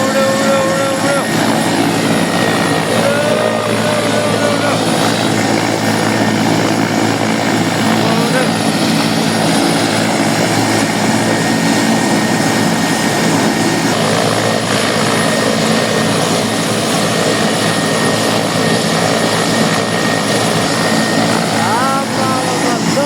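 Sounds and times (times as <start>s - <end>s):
helicopter rotor drone: 0.0s - 23.0s
high whine: 0.0s - 23.0s.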